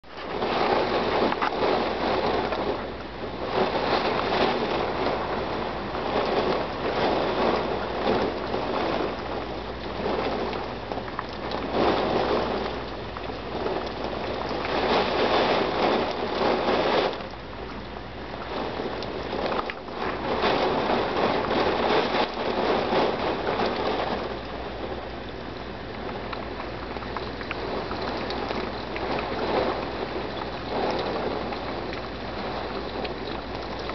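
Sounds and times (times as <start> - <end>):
heavy rain: 0.0 - 33.9
wind gusts: 0.0 - 33.9.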